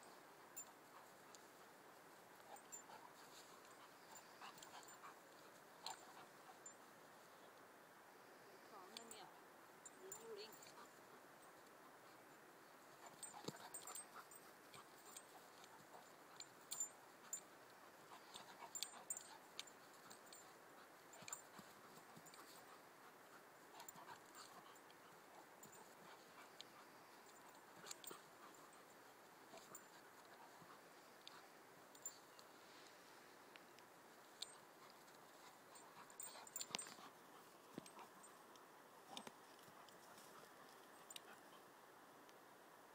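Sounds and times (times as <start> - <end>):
dogs panting: 0.1 - 7.6, 9.9 - 33.0, 34.2 - 41.7.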